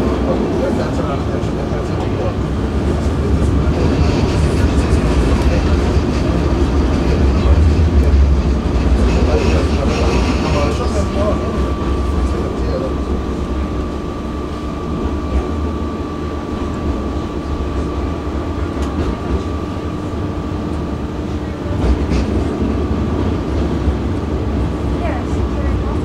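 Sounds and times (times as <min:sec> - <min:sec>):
tram rumbling: 0:00.0 - 0:26.0.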